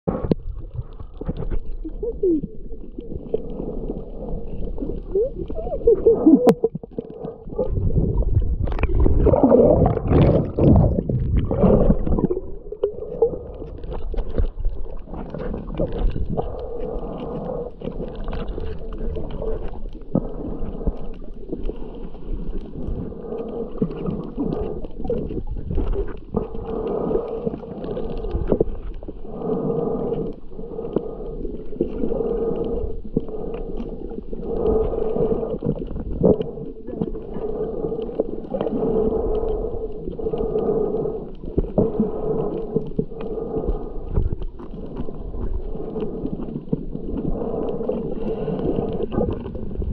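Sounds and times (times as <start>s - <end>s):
muffled underwater water noise: 0.0s - 49.9s.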